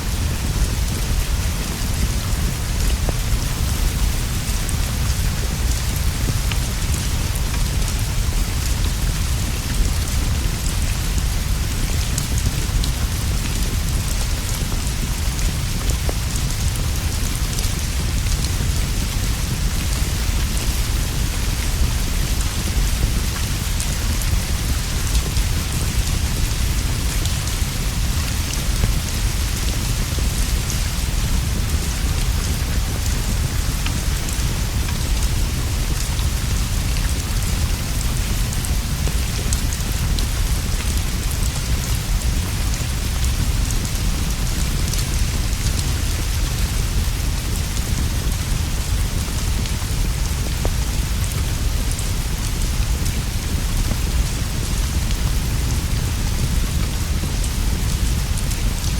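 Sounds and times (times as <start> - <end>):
rain on leaves and straw roof: 0.0 - 58.9.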